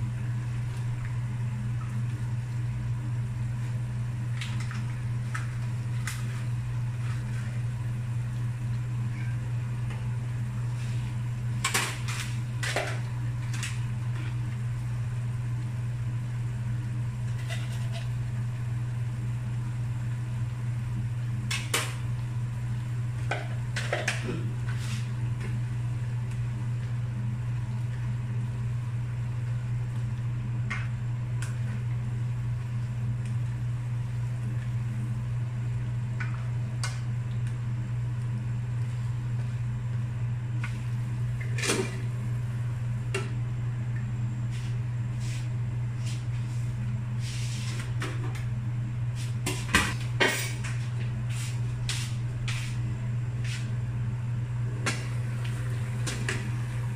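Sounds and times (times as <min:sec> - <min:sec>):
kitchen appliance humming: 0:00.0 - 0:56.9.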